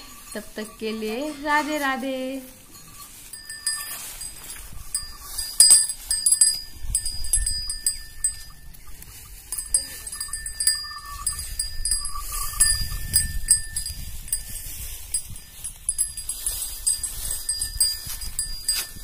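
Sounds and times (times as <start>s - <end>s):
faint high tinkling chirps: 2.5s - 19.0s
wind rumbling on microphone: 3.3s - 19.0s.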